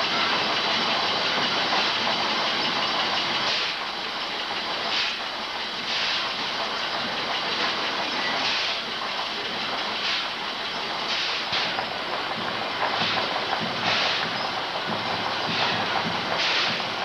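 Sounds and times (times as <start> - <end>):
steam hiss puffs: 0.3 - 9.0, 9.6 - 17.0.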